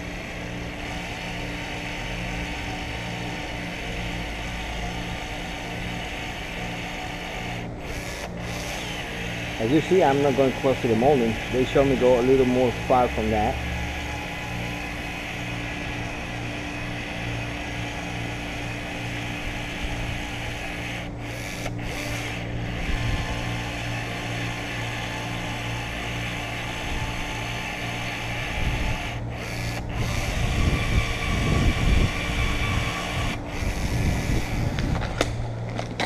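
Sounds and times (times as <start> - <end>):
powered caulking gun running: 0.0 - 36.0.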